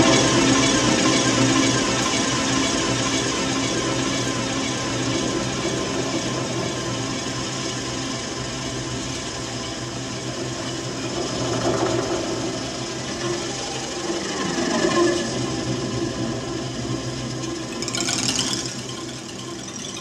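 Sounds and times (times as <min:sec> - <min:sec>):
steady low drone: 0:00.0 - 0:20.0.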